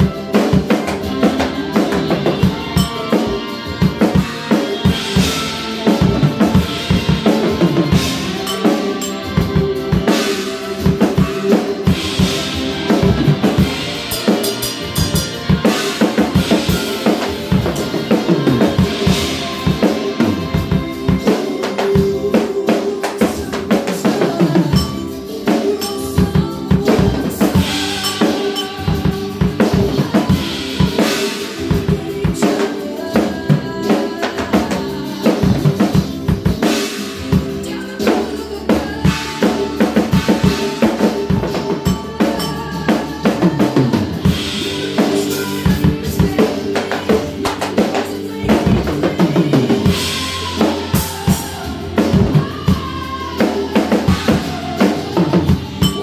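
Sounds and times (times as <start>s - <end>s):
recorded rock song: 0.0s - 56.0s
rock drum kit playing: 0.0s - 56.0s.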